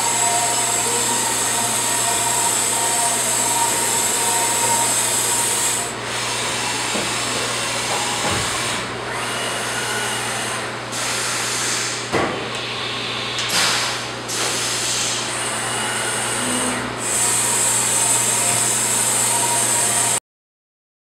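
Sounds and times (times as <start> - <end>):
machining center motor hum and hiss: 0.0 - 20.2.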